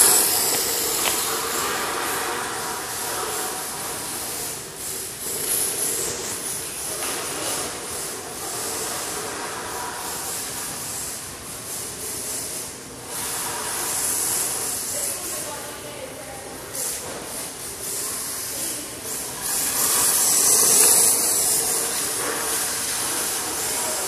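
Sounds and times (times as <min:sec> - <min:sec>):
small motor whirring: 0:00.0 - 0:15.4, 0:16.6 - 0:24.0
tyres hissing on concrete: 0:00.0 - 0:24.0.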